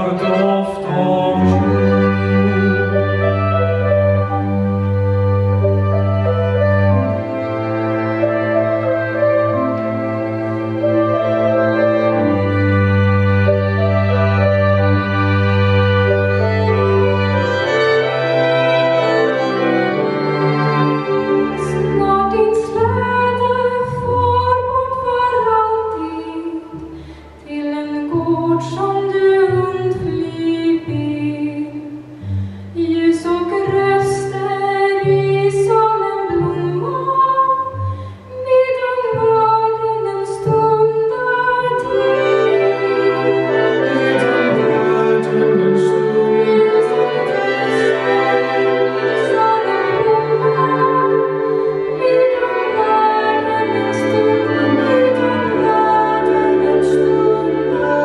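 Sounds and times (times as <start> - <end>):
bowed strings: 0.0 - 58.0.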